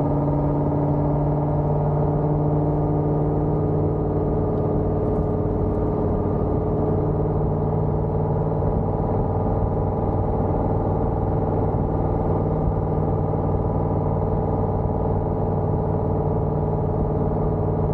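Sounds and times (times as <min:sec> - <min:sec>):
car engine exhaust running steadily: 0:00.0 - 0:17.9.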